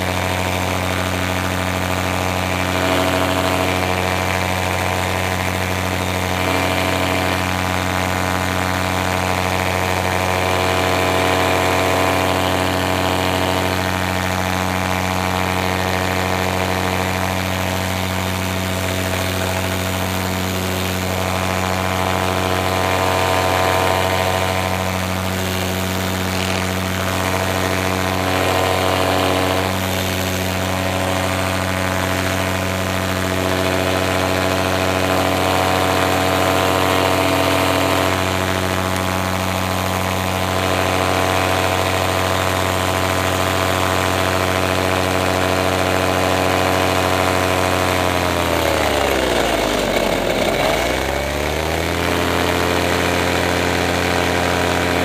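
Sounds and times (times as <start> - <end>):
paraglider motor and propeller: 0.0 - 55.0.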